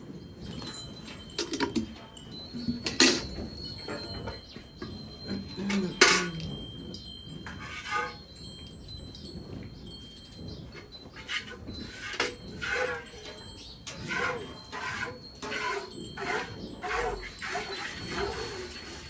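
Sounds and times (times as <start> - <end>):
metallic clinks: 0.1 - 19.0
milk pail ringing: 0.5 - 19.0.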